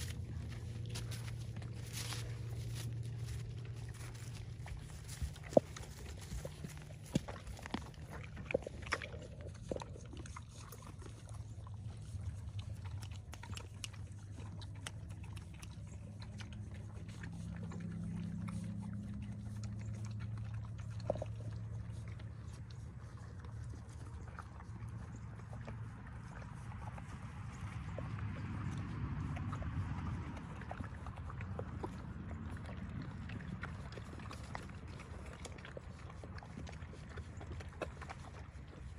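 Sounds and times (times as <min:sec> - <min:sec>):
donkey chewing and snuffling: 0:00.0 - 0:38.9
steady low hum: 0:00.0 - 0:38.9.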